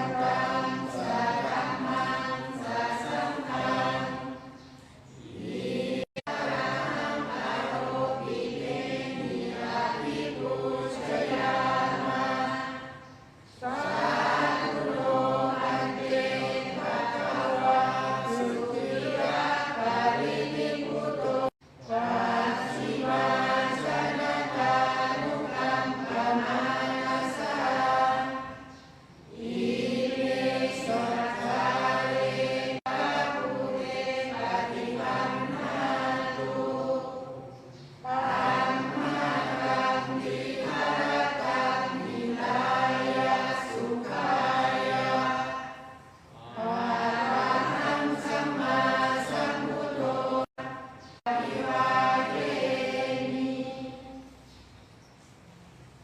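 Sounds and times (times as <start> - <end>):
group of voices chanting: 0.0 - 54.3.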